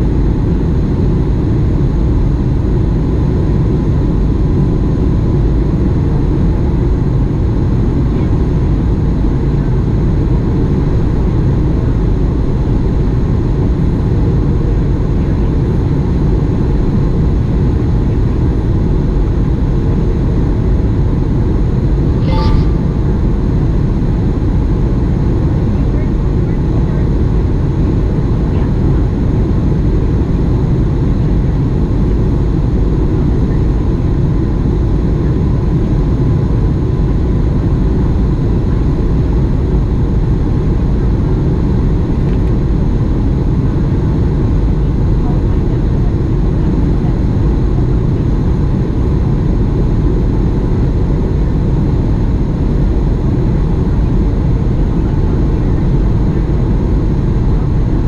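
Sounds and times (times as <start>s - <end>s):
airplane cabin rumble: 0.0s - 58.0s
faint steady hum: 0.0s - 58.0s.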